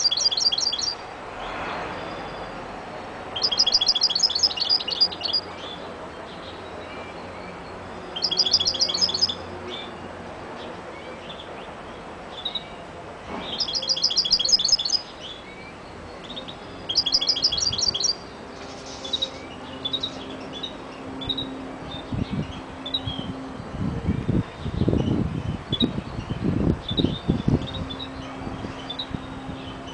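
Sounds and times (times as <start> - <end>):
goldfinch singing: 0.0 - 1.1, 3.3 - 10.0, 13.4 - 29.9.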